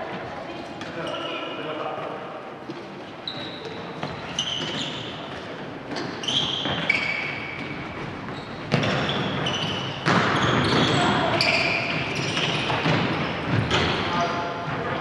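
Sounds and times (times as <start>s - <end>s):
sneakers squeaking on wooden floor: 0.8s - 15.0s.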